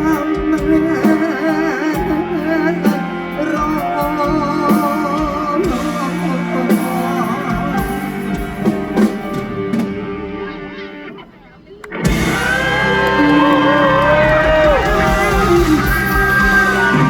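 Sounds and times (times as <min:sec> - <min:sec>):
person singing: 0:00.0 - 0:10.9, 0:11.7 - 0:17.0
drum kit: 0:00.0 - 0:17.0
electric guitar: 0:00.0 - 0:17.0.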